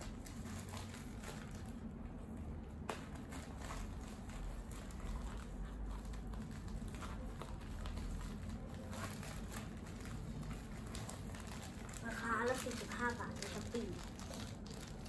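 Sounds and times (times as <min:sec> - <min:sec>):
plastic package rustling and clicks: 0:02.8 - 0:15.0.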